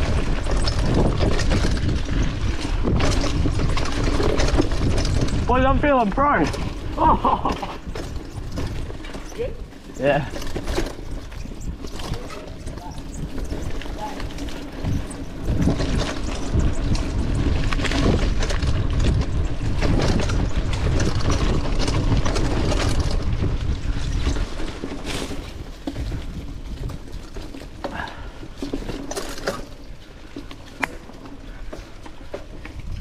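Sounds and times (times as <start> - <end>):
wind rushing over microphone: 0.0 - 28.6
bike knocks and rattles: 0.0 - 33.0
bike tyres on dirt: 0.0 - 33.0.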